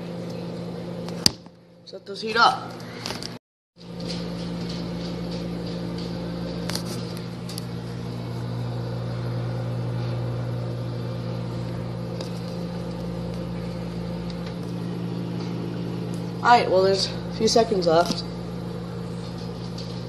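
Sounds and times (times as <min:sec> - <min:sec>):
microwave oven humming: 0:00.0 - 0:20.0.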